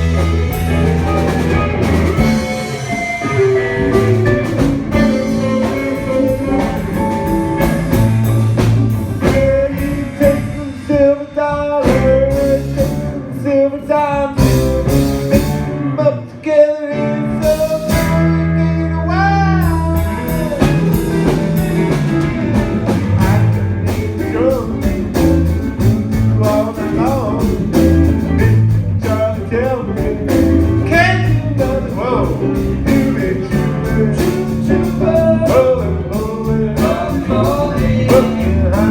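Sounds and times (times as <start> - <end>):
person singing: 0.0 - 15.0, 15.8 - 38.9
blues-rock band playing: 0.0 - 38.9
guitar: 0.0 - 38.9.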